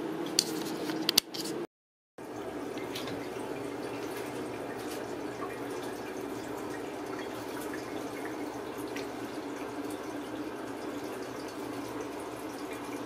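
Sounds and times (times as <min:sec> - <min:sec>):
tap water running into tub: 0:02.2 - 0:13.0
water drips and splashes: 0:02.2 - 0:13.0.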